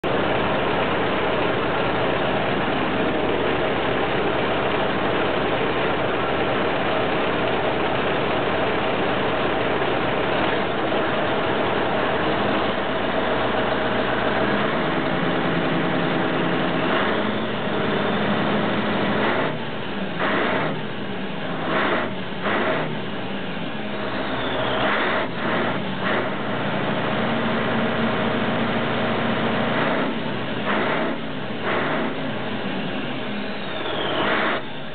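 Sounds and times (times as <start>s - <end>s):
diesel truck engine revving: 0.0s - 34.9s.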